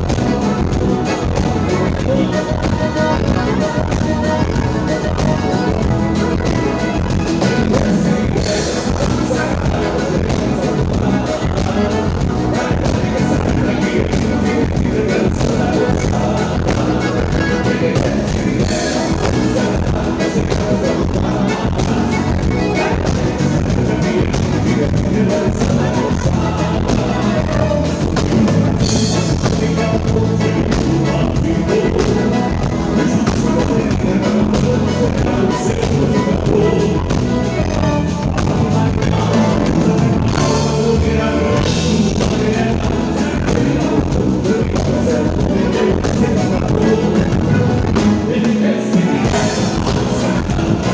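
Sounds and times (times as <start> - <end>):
band playing music: 0.0 - 50.9
person singing: 0.0 - 50.9.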